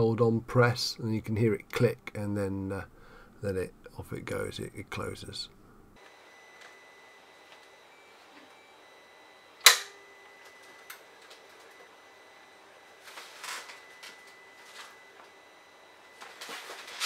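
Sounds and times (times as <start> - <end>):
faint motor hum: 0.0 - 17.0.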